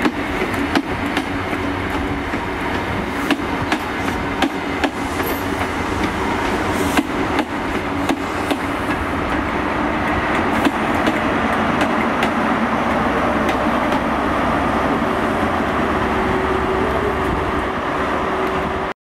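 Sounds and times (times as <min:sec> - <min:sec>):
train passing: 0:00.0 - 0:18.9.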